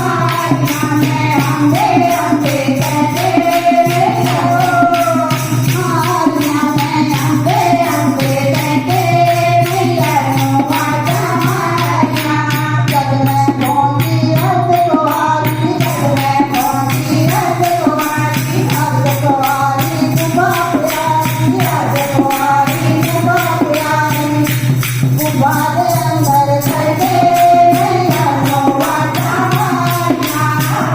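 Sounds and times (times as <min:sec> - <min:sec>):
devotional song sung in kirtan style: 0:00.0 - 0:30.9
jingling tambourine percussion: 0:00.0 - 0:30.9.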